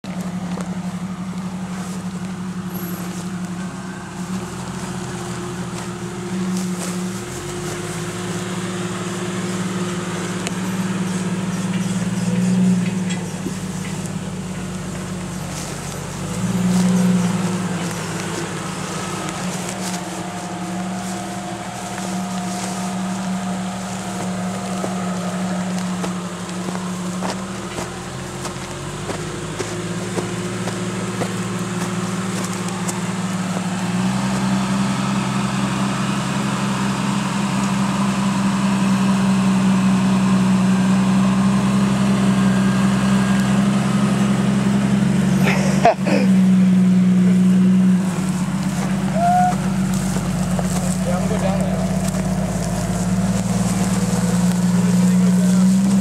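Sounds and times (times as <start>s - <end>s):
vehicle engine running at low speed: 0.0s - 56.0s.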